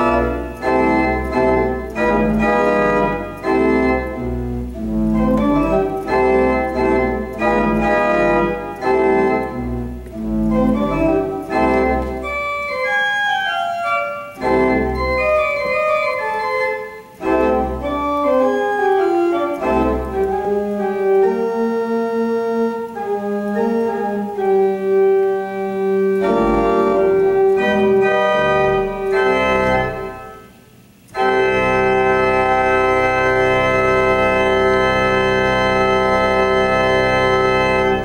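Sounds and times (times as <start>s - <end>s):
pipe organ chords: 0.0s - 38.0s.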